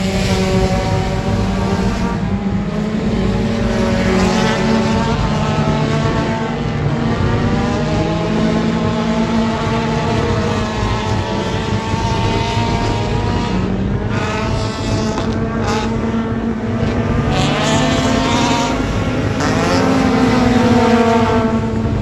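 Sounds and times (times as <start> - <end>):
race car engines at speed: 0.0 - 22.0.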